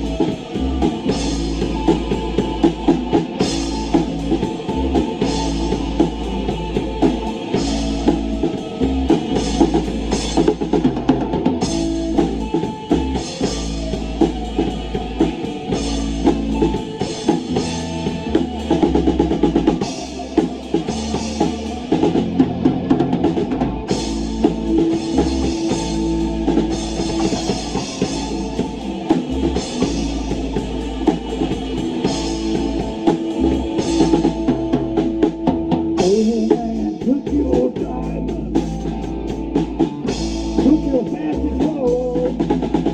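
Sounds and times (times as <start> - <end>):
bass drum and snare: 0.0 - 42.9
bass line: 0.0 - 42.9
distorted guitar: 0.0 - 42.9
rock band playing live: 0.0 - 42.9.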